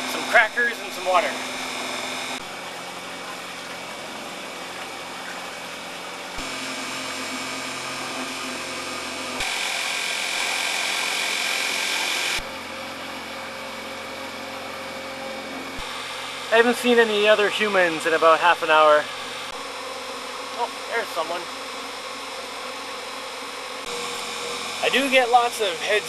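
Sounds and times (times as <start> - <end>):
electric motor whine: 0.0 - 26.0.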